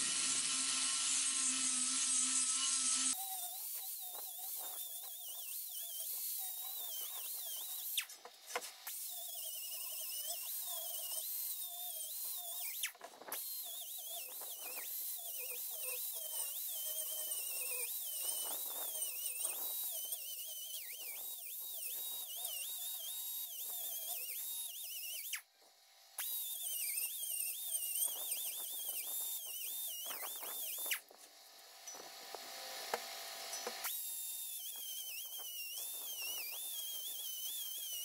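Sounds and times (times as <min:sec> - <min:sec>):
pneumatic grinder whining: 0:00.0 - 0:38.0.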